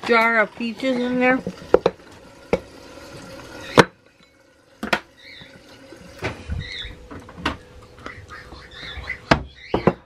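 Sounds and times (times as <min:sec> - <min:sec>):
liquid pouring sounds: 0:00.0 - 0:08.8.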